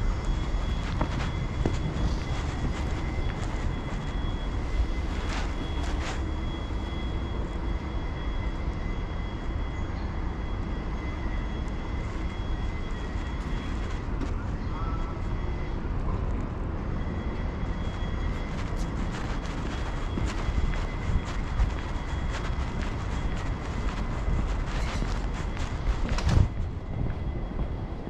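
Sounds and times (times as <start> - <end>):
city traffic rumble: 0.0 - 28.0
high-pitched whine: 0.0 - 28.0.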